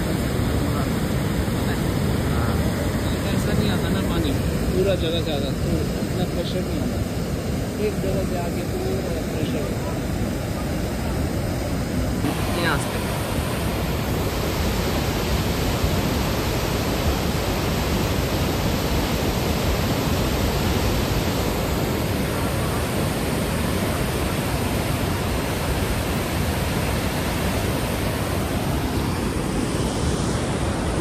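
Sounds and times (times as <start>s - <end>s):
floodwater rushing over boulders: 0.0s - 31.0s.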